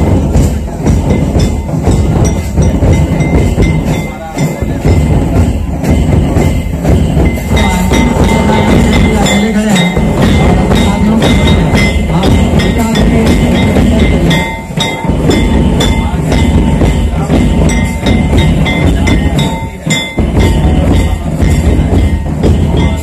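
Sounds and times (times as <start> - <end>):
drum ensemble beating: 0.0 - 23.0.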